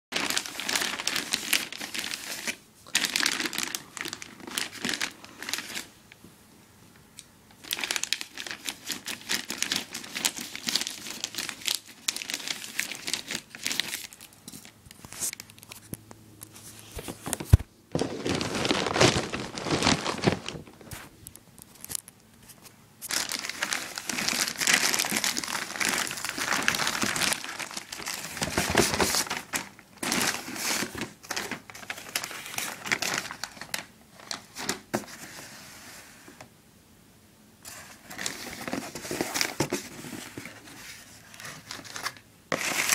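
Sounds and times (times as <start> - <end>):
plastic bag crinkling: 0.1 - 6.0, 7.6 - 15.9, 17.0 - 22.1, 23.0 - 34.9, 37.7 - 42.9.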